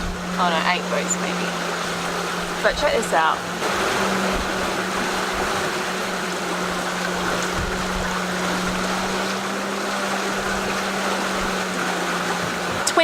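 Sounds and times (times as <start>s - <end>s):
low hum: 0.0s - 13.0s
water rushing along hull: 0.0s - 13.0s.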